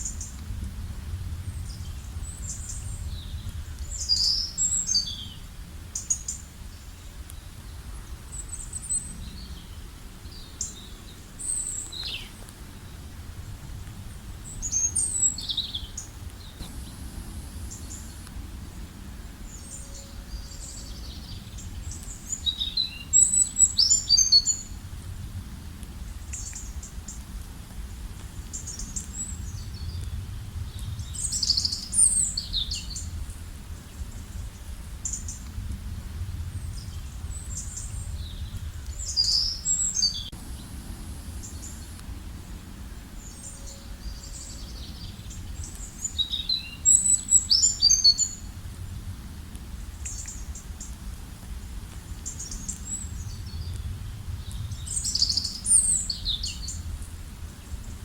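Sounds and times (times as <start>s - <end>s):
low background rumble: 0.0s - 47.5s
songbirds chirping and trilling: 1.2s - 58.0s.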